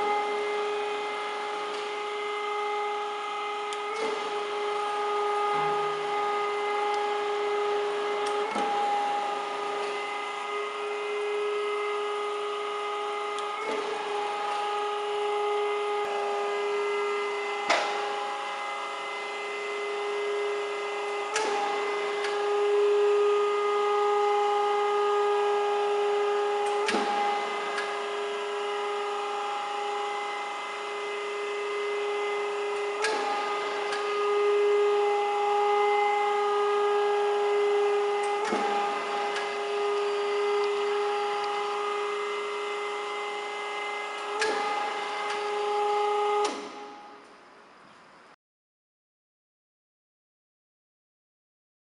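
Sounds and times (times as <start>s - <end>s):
grinder motor hum and whine: 0.0s - 48.4s.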